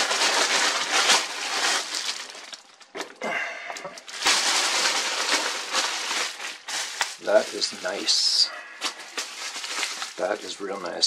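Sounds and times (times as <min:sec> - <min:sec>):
packaging crinkling and rustling: 0:00.0 - 0:03.2, 0:03.8 - 0:11.0.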